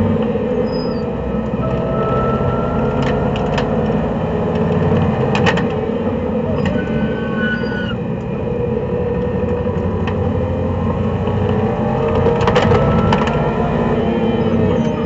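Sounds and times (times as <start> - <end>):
racing car engine: 0.0 - 15.0
road and wind noise: 0.0 - 15.0.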